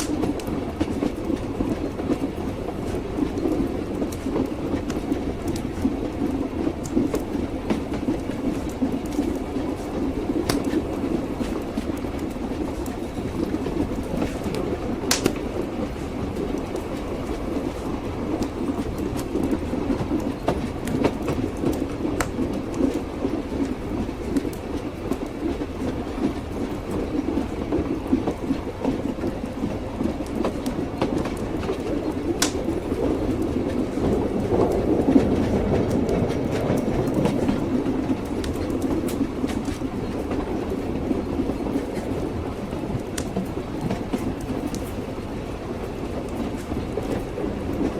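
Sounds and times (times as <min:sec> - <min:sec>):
railway carriage rumble: 0:00.0 - 0:47.9
train wheels clattering over rails: 0:00.0 - 0:47.9.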